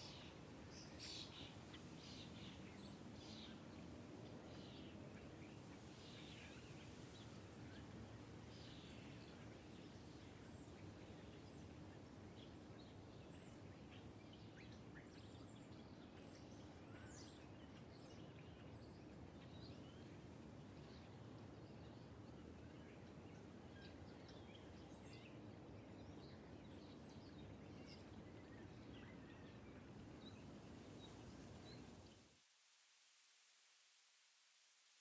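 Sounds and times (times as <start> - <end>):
steady low background hiss: 0.0 - 35.0.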